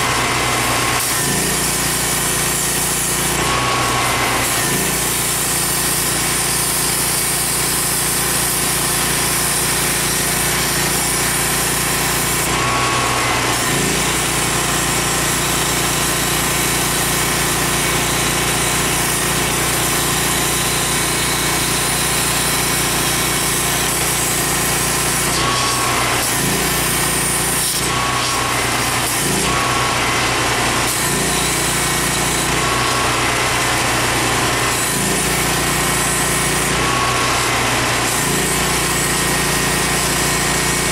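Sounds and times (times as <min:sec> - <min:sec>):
power tool cutting steel: 0:00.0 - 0:40.9.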